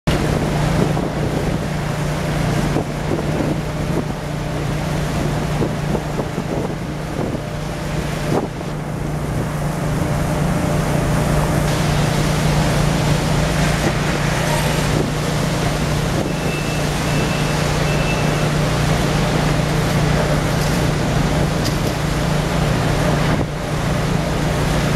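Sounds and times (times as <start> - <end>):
boat engine droning: 0.1 - 24.9.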